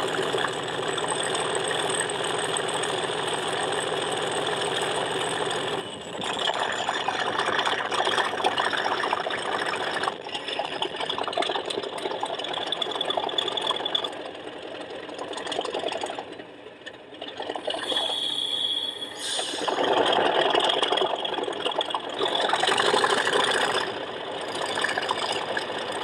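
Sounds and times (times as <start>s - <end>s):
diesel engine sound from small speaker: 0.0s - 26.0s.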